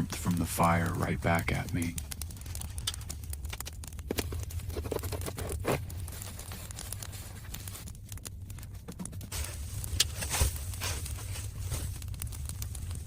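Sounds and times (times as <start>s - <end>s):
foil rustling: 0.0s - 13.0s
low steady rumble: 0.0s - 13.0s.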